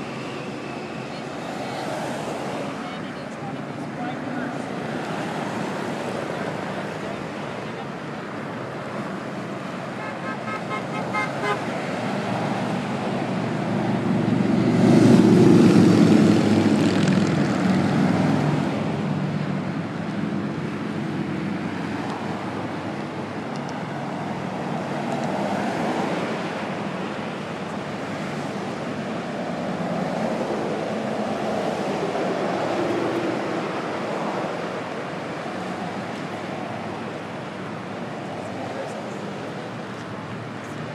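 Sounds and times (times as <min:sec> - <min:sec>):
freeway traffic passing: 0:00.0 - 0:40.9.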